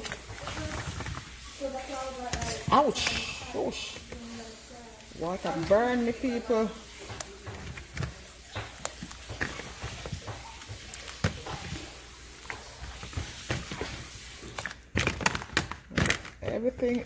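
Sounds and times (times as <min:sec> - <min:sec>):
steady hiss: 0:00.0 - 0:14.8.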